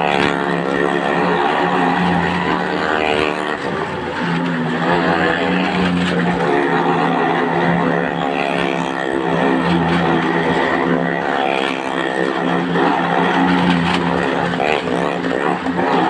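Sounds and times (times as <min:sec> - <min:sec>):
car engine running hard: 0:00.0 - 0:16.0
motorcycle engine running hard: 0:00.0 - 0:16.0.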